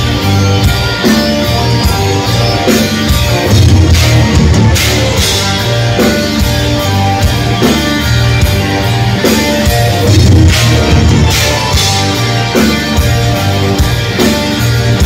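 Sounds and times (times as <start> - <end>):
bass guitar: 0.0 - 15.0
distorted electric guitars: 0.0 - 15.0
drum kit: 0.0 - 15.0.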